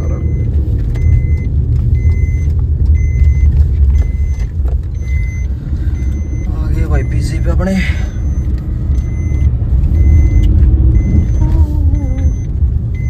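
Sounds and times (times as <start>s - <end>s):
car driving low rumble: 0.0s - 13.0s
short electronic beeps: 0.0s - 13.0s.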